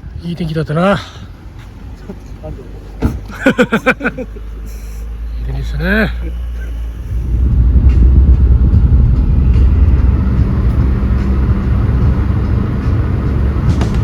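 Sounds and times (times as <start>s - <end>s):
car interior road and engine rumble: 0.0s - 14.0s.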